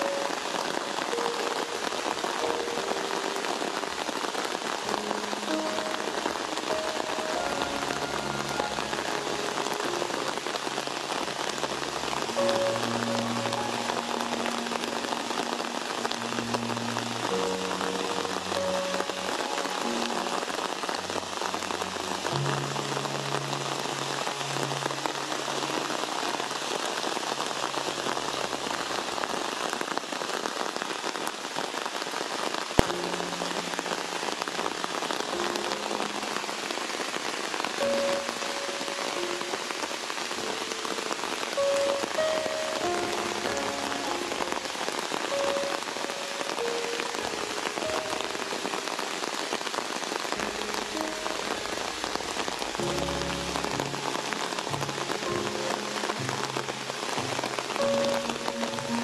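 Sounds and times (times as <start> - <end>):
heavy rain on wet ground: 0.0 - 59.0.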